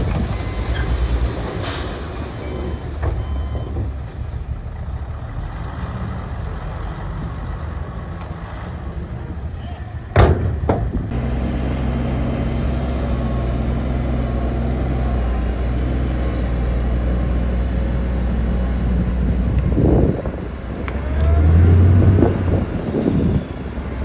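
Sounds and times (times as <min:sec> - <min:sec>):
heavy diesel engine running: 0:00.0 - 0:10.2, 0:10.9 - 0:24.0.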